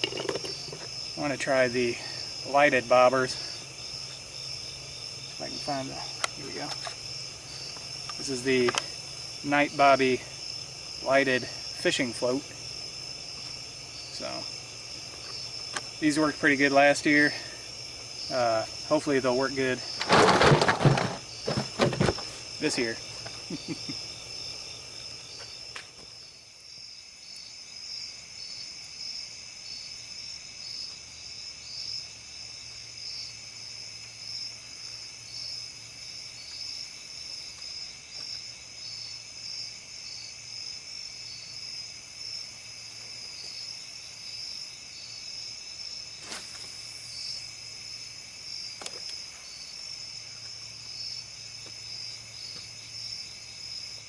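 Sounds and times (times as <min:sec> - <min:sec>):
crickets chirping: 0:00.0 - 0:54.0
insects trilling: 0:00.0 - 0:54.0.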